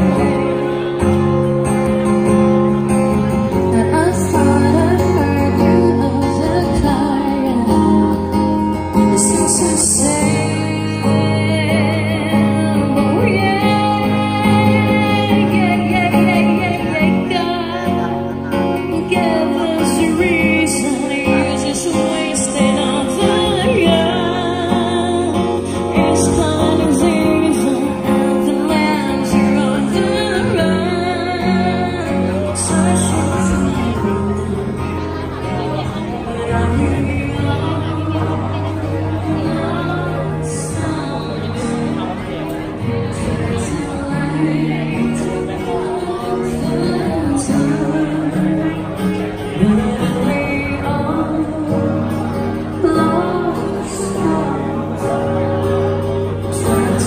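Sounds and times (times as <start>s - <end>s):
woman singing: 0.0s - 0.8s, 3.5s - 42.1s, 43.1s - 57.0s
acoustic guitar: 0.0s - 57.0s.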